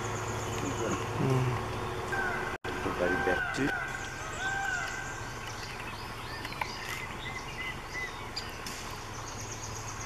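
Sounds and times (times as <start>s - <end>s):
birds chirping and calling: 0.0s - 10.0s
low background hum: 0.0s - 10.0s.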